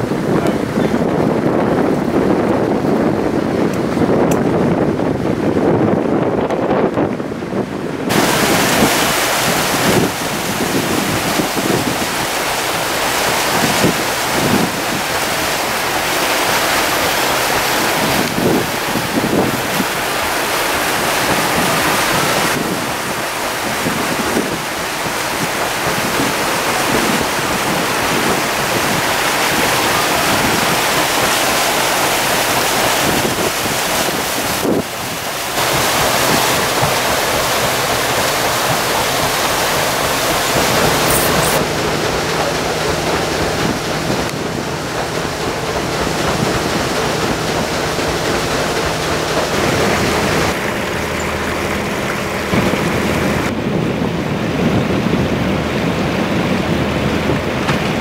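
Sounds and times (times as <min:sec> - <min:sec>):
water rushing: 0:00.0 - 0:58.0
wind buffeting microphone: 0:00.0 - 0:58.0.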